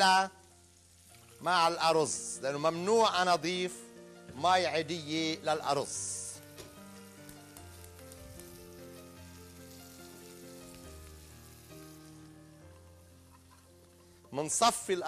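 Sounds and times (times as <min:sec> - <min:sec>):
fish sizzling in hot oil: 0:00.0 - 0:02.8, 0:04.9 - 0:15.0
background music of held chords: 0:00.0 - 0:15.0.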